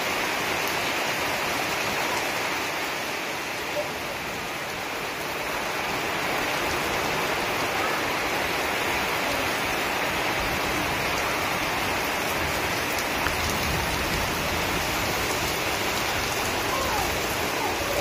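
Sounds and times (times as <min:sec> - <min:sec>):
heavy rain on leaves: 0:00.0 - 0:18.0.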